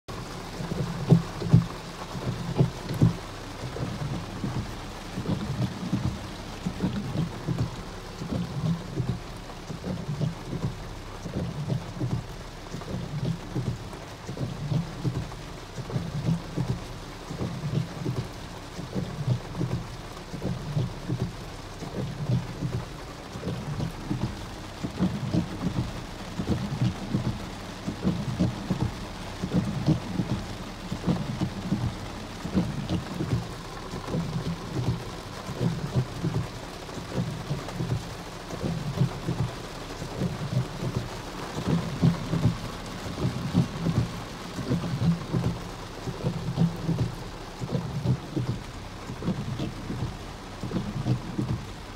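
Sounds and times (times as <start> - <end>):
heavy rain on car roof: 0.0 - 51.9.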